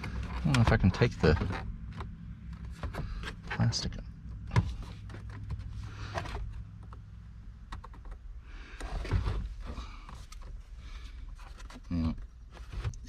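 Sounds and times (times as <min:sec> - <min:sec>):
plastic parts clicking and scraping: 0:00.0 - 0:03.7, 0:04.3 - 0:13.0.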